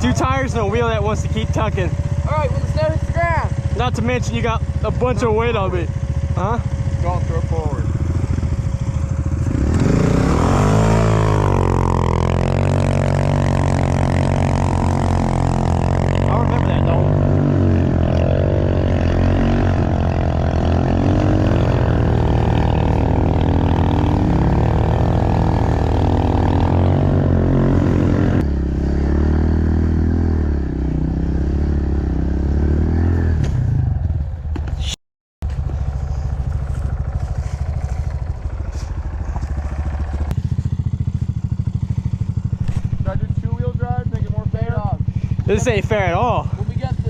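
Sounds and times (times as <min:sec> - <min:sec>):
pit bike engine revving: 0:00.0 - 0:34.3, 0:35.9 - 0:47.0.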